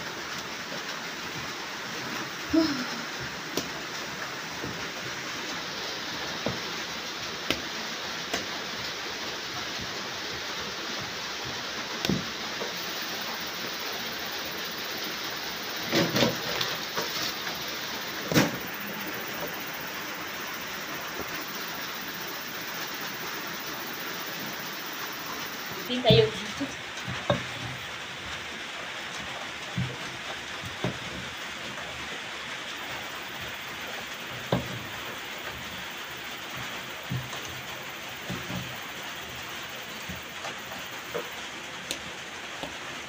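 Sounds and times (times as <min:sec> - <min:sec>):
rain hiss: 0:00.0 - 0:43.0.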